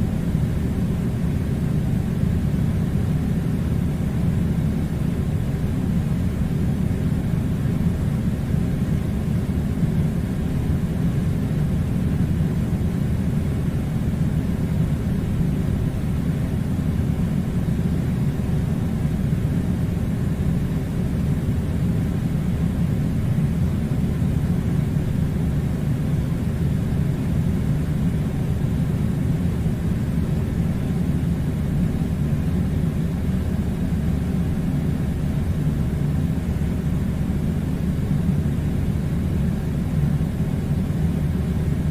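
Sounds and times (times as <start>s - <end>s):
air conditioner humming: 0.0s - 41.9s.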